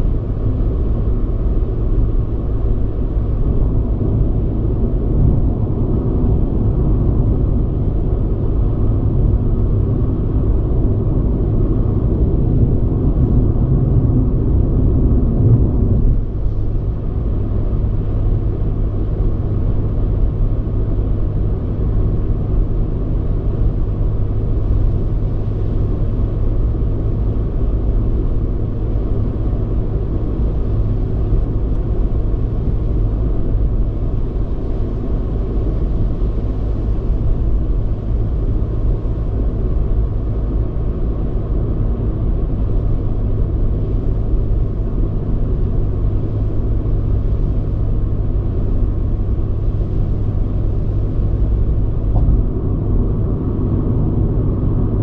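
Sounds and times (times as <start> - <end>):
car engine and tyre road noise: 0.0 - 55.0.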